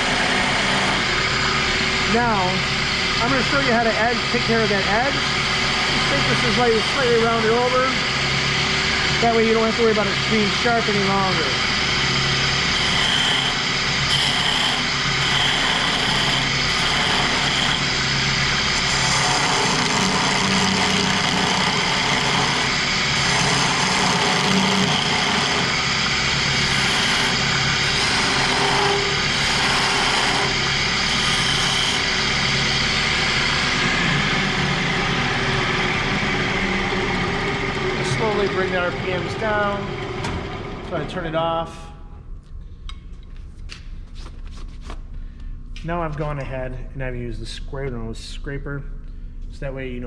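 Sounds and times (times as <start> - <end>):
lathe tool scraping wood: 0.0 - 41.4
lathe motor hum: 0.0 - 41.9.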